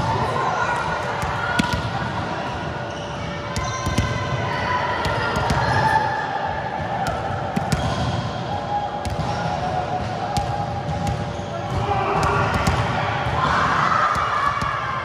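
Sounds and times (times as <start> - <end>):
echoing hall noise: 0.0 - 15.0.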